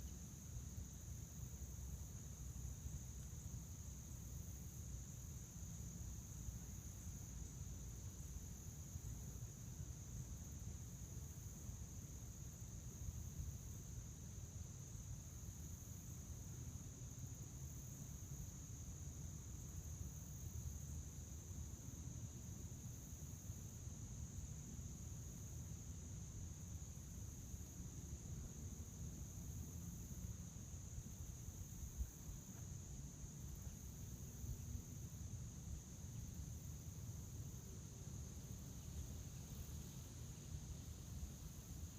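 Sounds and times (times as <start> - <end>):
crickets chirring: 0.0 - 41.9.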